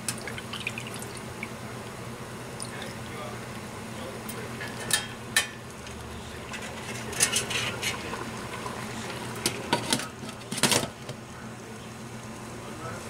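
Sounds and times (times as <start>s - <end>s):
pot steaming: 0.0s - 13.0s.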